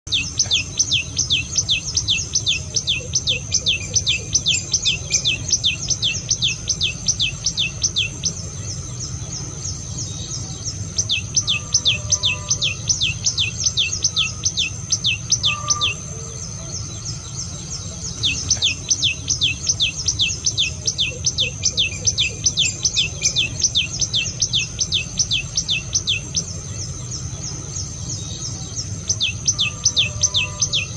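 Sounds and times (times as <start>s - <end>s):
bird singing sharp notes: 0.1s - 30.9s
high insect drone: 0.1s - 30.9s
low hum: 0.1s - 30.9s.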